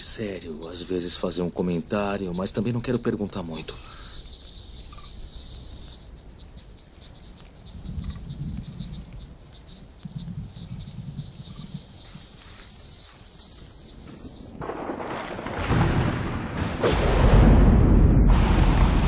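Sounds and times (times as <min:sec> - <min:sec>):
insects chirping and trilling: 0:00.0 - 0:19.0.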